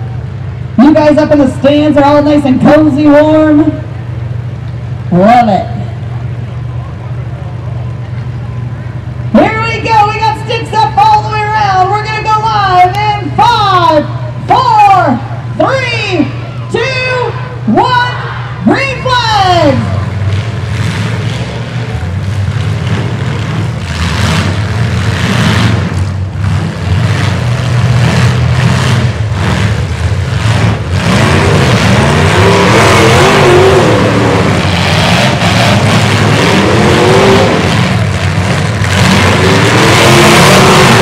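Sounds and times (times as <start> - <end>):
truck engines revving: 0.0 - 41.0.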